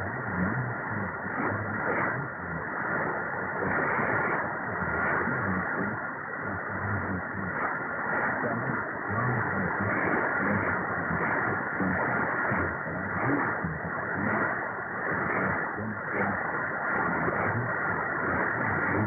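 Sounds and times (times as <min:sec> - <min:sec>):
faint radio voice: 0:00.0 - 0:19.0
radio hiss and static: 0:00.0 - 0:19.0.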